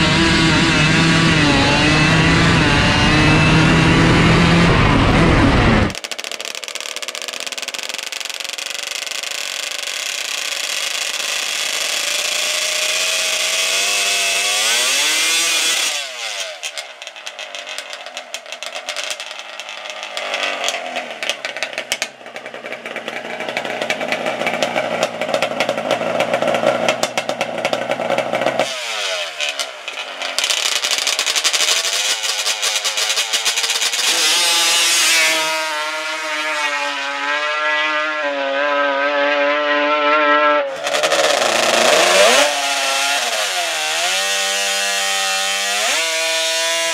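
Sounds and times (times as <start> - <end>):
quad launching with rising rev: 0.0 - 46.9
two-stroke quad engines revving: 0.0 - 46.9.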